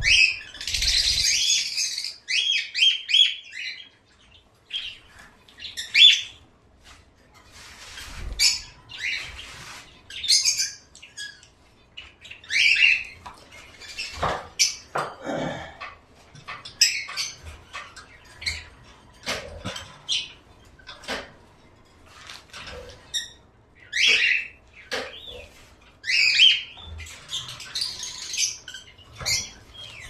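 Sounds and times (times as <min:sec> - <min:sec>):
birds chirping and squawking: 0:00.0 - 0:06.6, 0:07.4 - 0:30.0.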